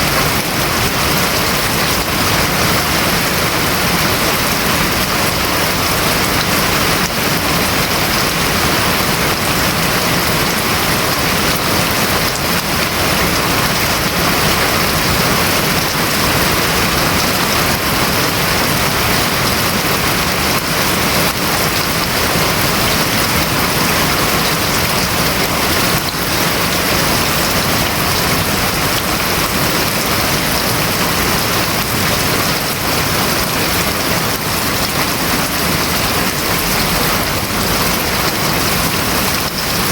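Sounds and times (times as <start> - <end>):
heavy rain drumming on roof: 0.0 - 39.9.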